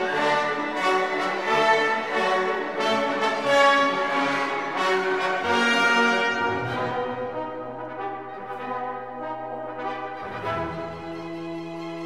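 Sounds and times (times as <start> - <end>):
brass holding notes: 0.0 - 12.0.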